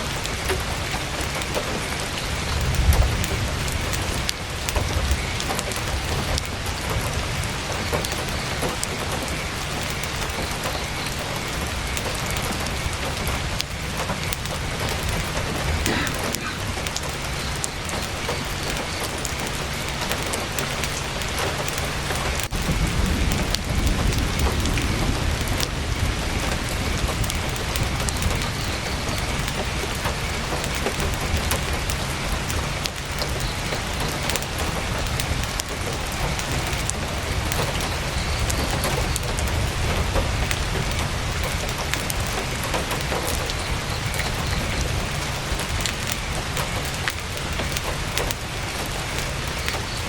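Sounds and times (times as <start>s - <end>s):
heavy rain on tent canvas: 0.0s - 50.0s.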